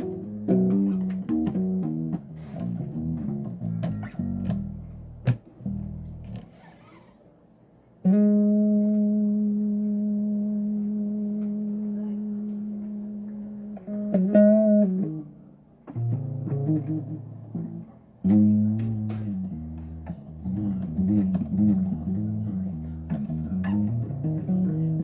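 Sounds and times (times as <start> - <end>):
electric bass guitar notes: 0.0 - 6.6, 8.0 - 25.0.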